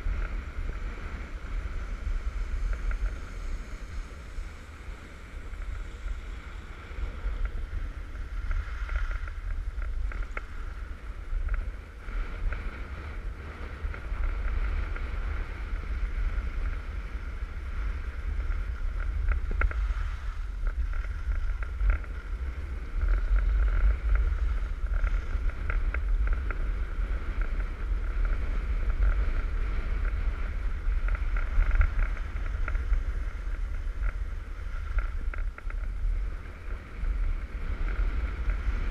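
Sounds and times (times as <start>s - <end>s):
skis scraping on snow: 0.0s - 38.9s
wind buffeting microphone: 0.0s - 38.9s.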